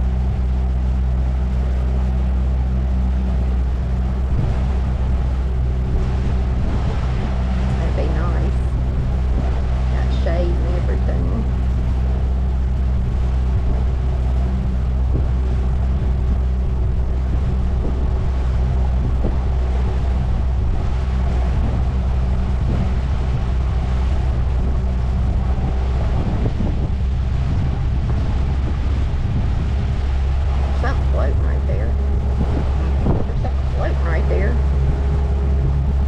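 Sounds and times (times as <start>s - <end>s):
outboard motor running: 0.0s - 36.0s
wind noise on microphone: 0.0s - 36.0s.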